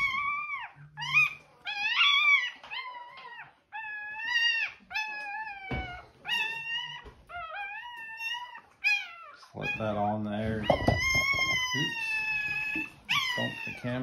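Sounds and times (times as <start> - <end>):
puppy squealing: 0.0 - 14.0.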